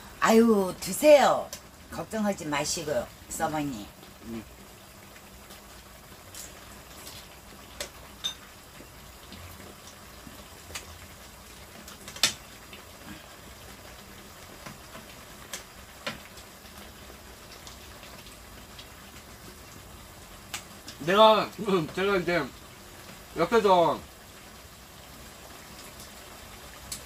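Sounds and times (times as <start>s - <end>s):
broth simmering hiss: 0.0s - 27.0s.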